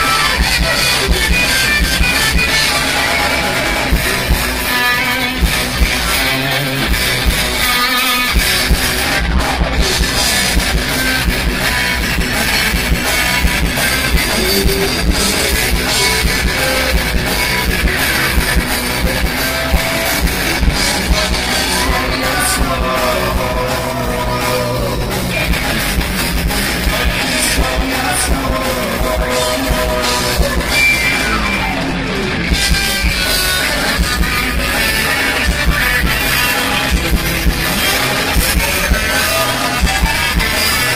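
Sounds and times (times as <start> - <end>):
gliding lead guitar line: 0.0 - 40.9
rock band playing loudly: 0.0 - 40.9.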